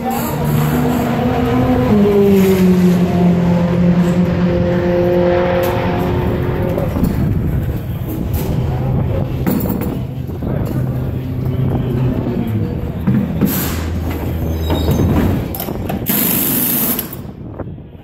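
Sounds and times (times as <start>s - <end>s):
race car engine running: 0.0s - 14.6s.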